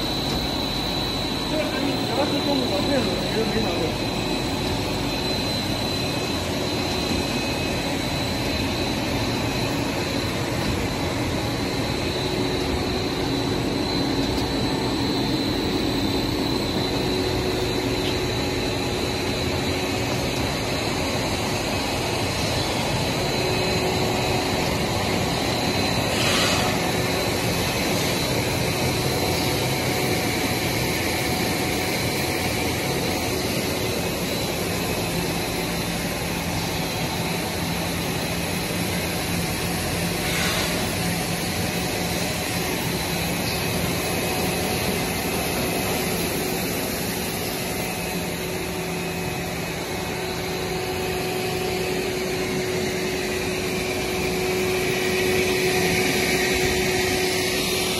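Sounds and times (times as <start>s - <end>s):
high machine whine: 0.0s - 57.9s
machine drone: 0.0s - 57.9s.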